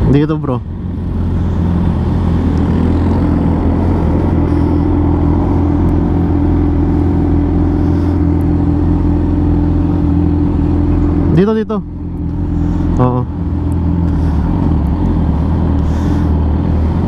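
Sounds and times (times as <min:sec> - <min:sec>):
motorcycle engine running at low revs: 0:00.0 - 0:17.0.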